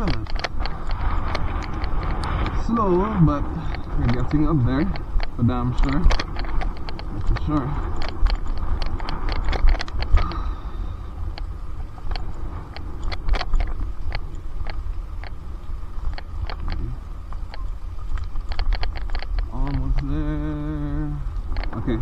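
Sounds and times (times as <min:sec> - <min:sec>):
bike clicks and crunches: 0:00.0 - 0:22.0
wind and riding noise: 0:00.0 - 0:22.0.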